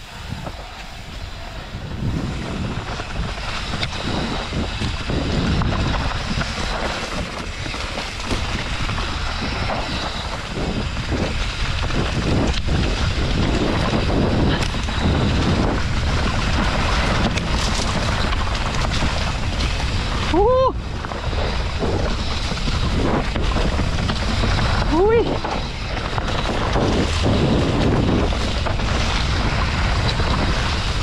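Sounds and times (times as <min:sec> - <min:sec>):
bike tyres on dirt trail: 0:00.0 - 0:31.0
wind rushing over microphone: 0:00.0 - 0:31.0
bike clattering over bumps: 0:02.2 - 0:31.0.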